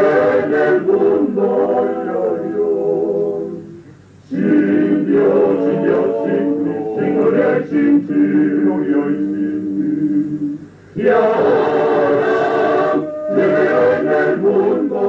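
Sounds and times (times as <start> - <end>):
male choir singing a cappella: 0.0 - 15.0.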